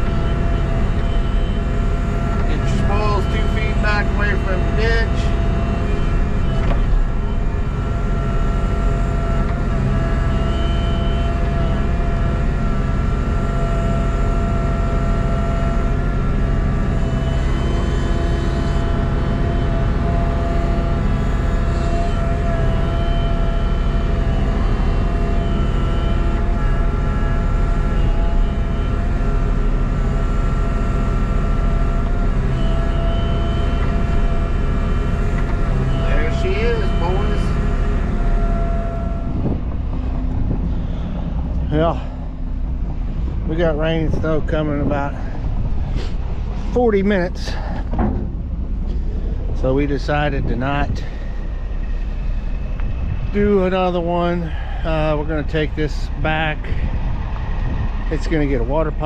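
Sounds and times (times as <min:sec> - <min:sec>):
diesel engine rumbling: 0:00.0 - 0:59.0
high whine: 0:00.0 - 0:59.0.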